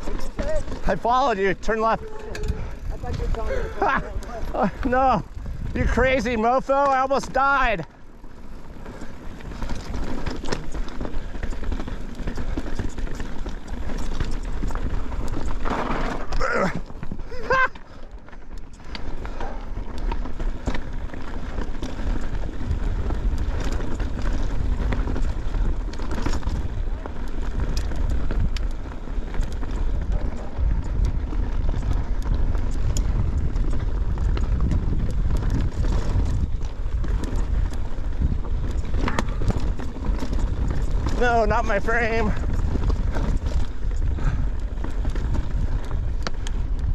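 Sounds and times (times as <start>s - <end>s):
wind rumble on microphone: 0.0s - 17.8s, 18.7s - 46.9s
bike rattling and clicking: 0.0s - 46.9s
tyres crunching on dirt: 0.0s - 46.9s.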